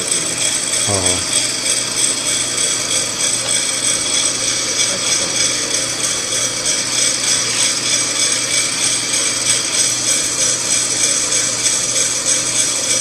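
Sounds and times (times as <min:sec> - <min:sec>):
coffee roaster machine whirring: 0:00.0 - 0:13.0.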